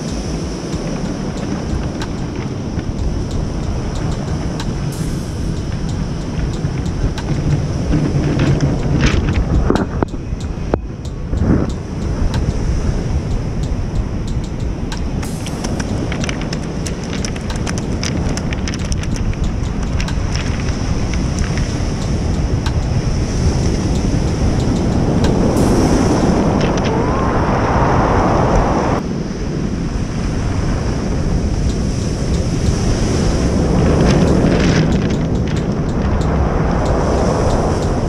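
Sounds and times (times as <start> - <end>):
surf washing over cobbles: 0.0 - 10.0, 15.2 - 29.0, 30.2 - 38.0
wind buffeting microphone: 0.0 - 38.0.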